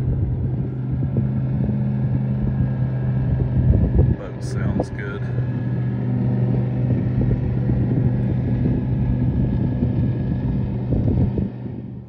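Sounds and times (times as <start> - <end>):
motorboat engine droning: 0.0 - 12.0
wind buffeting microphone: 0.0 - 12.0.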